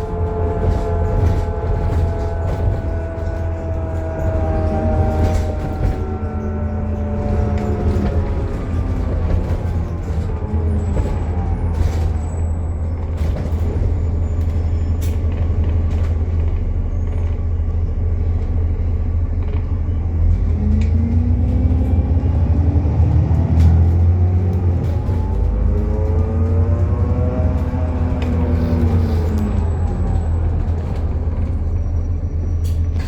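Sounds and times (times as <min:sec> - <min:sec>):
bus axle rumble and whine: 0:00.0 - 0:33.0.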